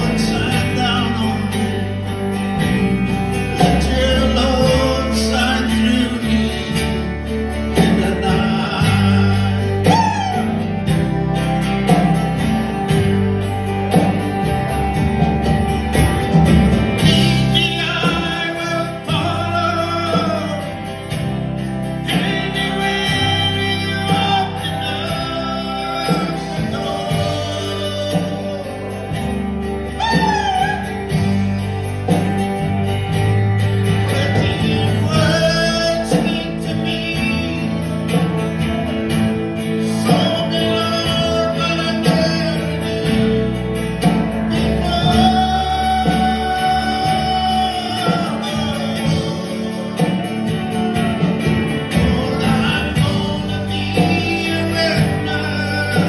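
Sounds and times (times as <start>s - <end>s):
man singing: 0.0s - 14.6s, 16.2s - 56.0s
gospel band playing: 0.0s - 56.0s.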